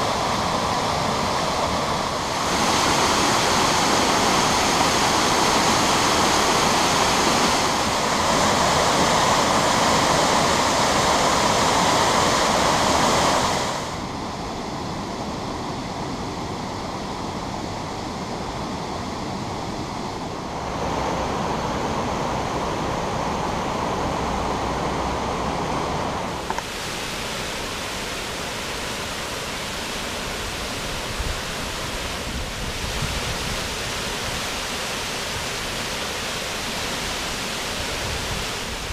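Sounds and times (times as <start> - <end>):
waterfall roaring over rock: 0.0 - 38.9.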